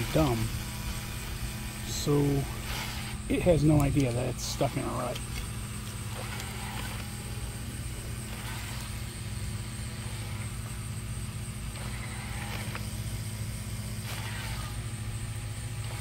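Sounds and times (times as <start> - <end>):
electric motors humming: 0.0 - 16.0
faint high whine: 0.0 - 16.0.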